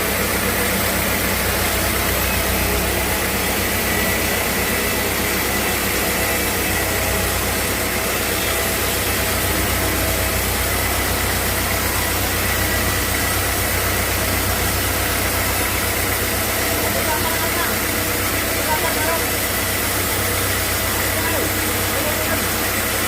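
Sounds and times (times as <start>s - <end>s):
sawmill machinery droning: 0.0s - 23.0s.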